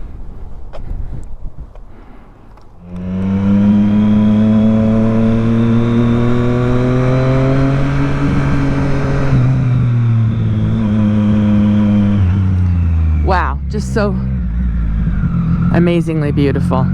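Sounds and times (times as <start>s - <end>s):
motorcycle engine pulling: 2.5s - 13.4s, 14.0s - 16.9s.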